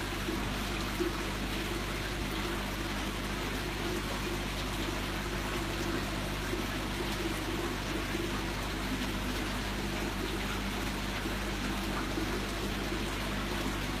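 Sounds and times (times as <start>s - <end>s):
aquarium pump hum: 0.0s - 14.0s
water trickling: 0.0s - 14.0s.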